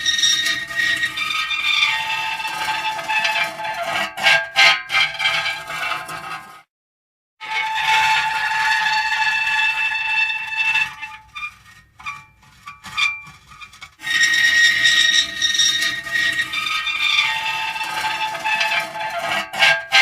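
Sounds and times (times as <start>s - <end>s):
metal creaking and squealing: 0.0s - 6.6s, 7.4s - 20.0s.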